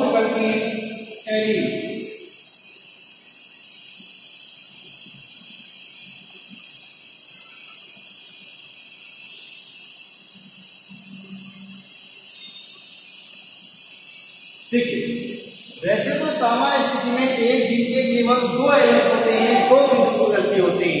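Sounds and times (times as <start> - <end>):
high-pitched background hiss: 0.0 - 21.0.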